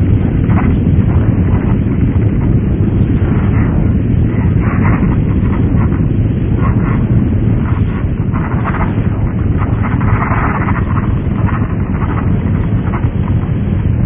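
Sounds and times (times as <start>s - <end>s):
hissing flares: 0.0s - 14.0s
loud low rumble: 0.0s - 14.0s.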